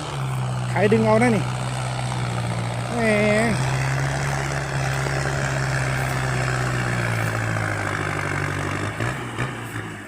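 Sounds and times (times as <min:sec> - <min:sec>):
tractor diesel engine droning: 0:00.0 - 0:10.0.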